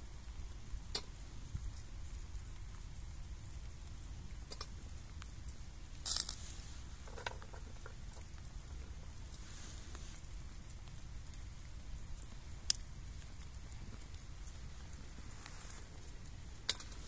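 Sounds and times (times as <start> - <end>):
twig fire crackling: 0.0 - 17.0
wind rumble on microphone: 0.0 - 17.0.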